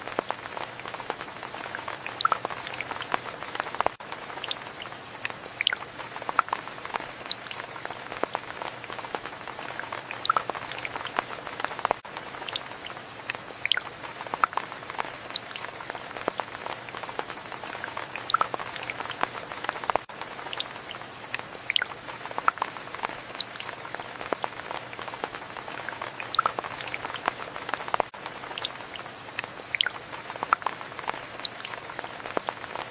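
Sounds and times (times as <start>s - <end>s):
rain falling: 0.0s - 32.9s
raindrops plinking and tapping: 0.0s - 32.9s.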